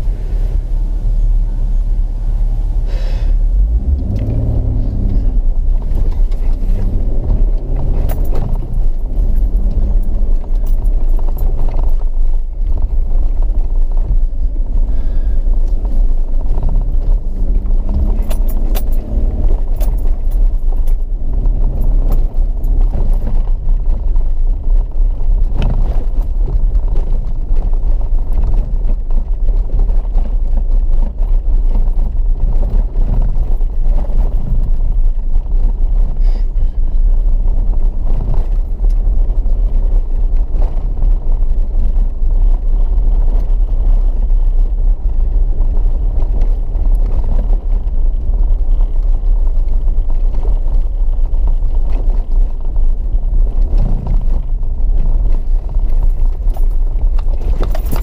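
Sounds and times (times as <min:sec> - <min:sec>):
rattles and clicks of vehicle: 0:00.0 - 0:58.0
vehicle engine and road rumble: 0:00.0 - 0:58.0.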